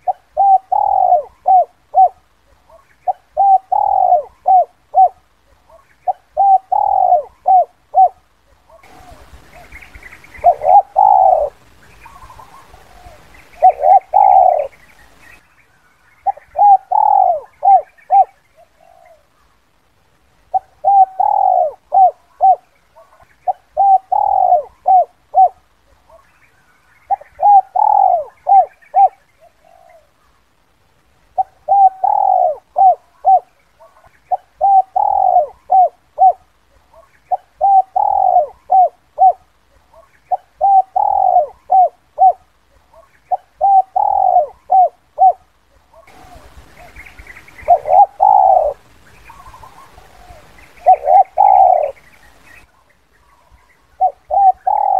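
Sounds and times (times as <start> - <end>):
dove cooing: 0.0 - 15.2, 16.2 - 19.5, 20.5 - 26.3, 27.0 - 30.4, 31.3 - 54.9.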